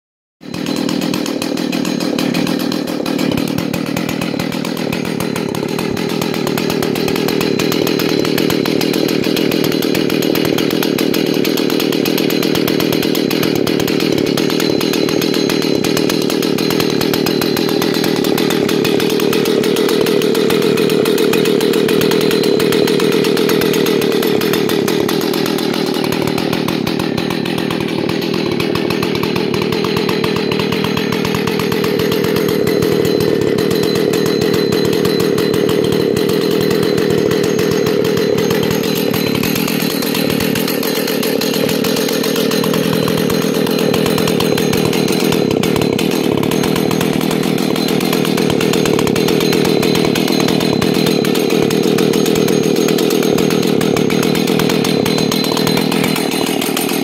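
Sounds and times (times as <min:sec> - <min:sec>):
chainsaw idling: 0:00.4 - 0:57.0.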